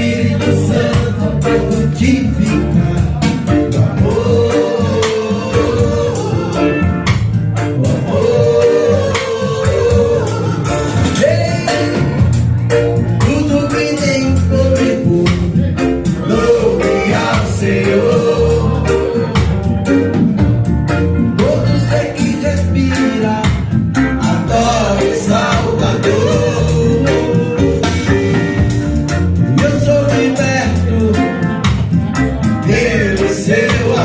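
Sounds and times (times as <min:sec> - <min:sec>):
person singing gospel song: 0:00.0 - 0:12.2, 0:13.2 - 0:19.7, 0:21.4 - 0:31.8, 0:32.5 - 0:34.0
band with bass and drums: 0:00.0 - 0:34.0.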